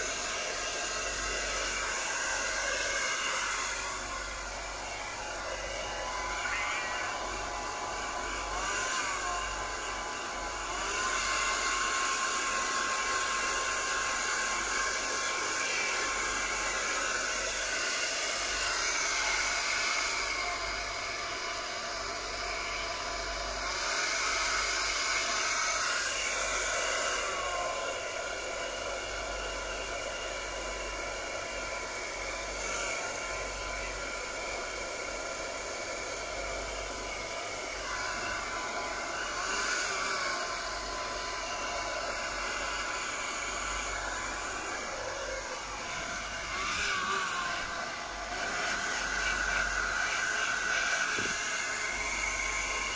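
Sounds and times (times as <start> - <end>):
hair dryer blowing: 0.0 - 52.9.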